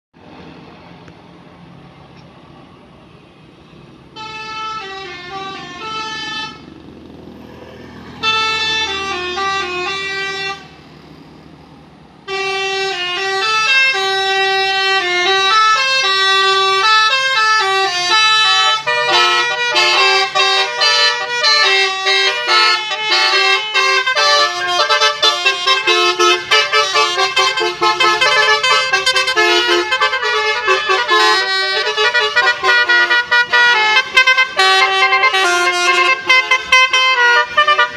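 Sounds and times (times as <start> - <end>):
musical bus horn playing a tune: 4.1 - 6.7, 8.1 - 10.8, 12.2 - 37.9.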